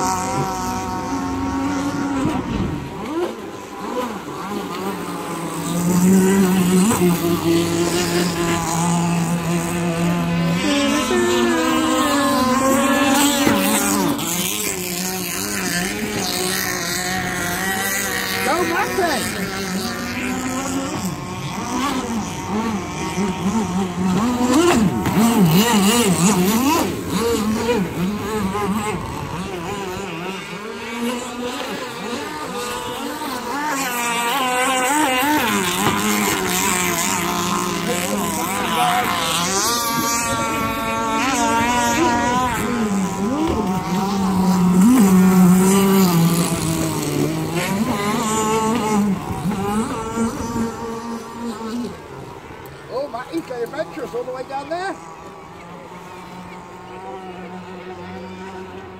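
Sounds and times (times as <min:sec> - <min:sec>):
racing powerboat engines: 0:00.0 - 0:58.9.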